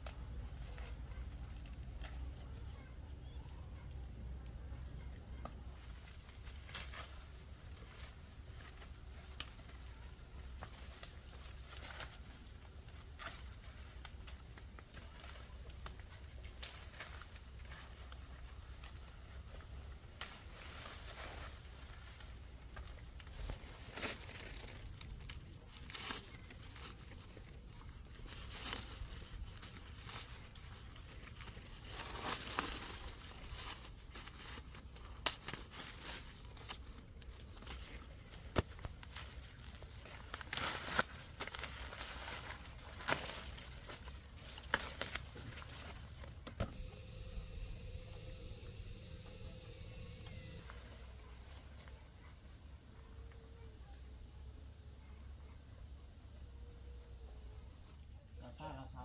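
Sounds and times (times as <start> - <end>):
dry plants rustling and snapping: 0.0 - 2.6, 5.4 - 50.9
high insect-like whine: 3.2 - 54.8.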